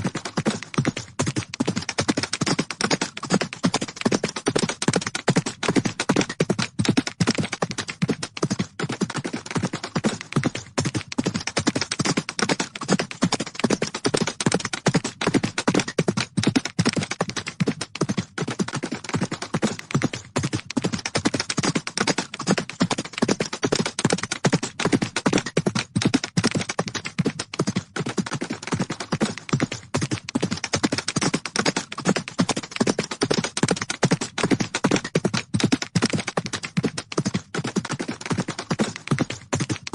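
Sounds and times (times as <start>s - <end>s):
horses galloping hoofbeats: 0.0s - 39.9s.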